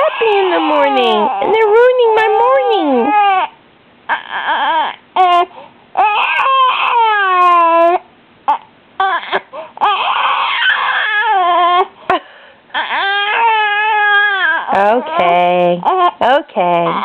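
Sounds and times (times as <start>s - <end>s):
baby crying: 0.0s - 12.0s, 12.7s - 16.2s.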